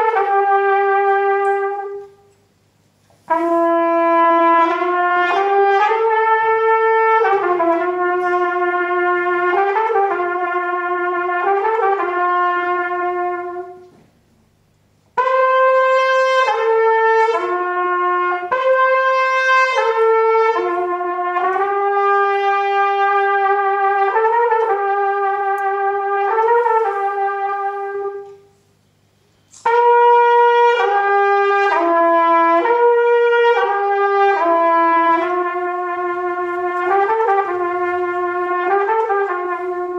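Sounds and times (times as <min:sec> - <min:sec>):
solo trumpet slow melody: 0:00.0 - 0:02.4, 0:03.2 - 0:39.9.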